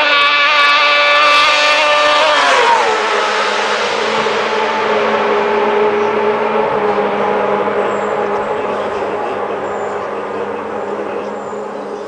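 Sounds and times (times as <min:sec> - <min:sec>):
racing engines passing at high revs: 0:00.0 - 0:12.0.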